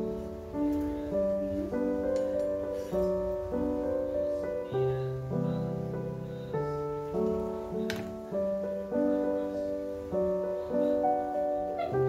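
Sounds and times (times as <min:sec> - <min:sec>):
gentle solo piano melody: 0:00.0 - 0:12.0.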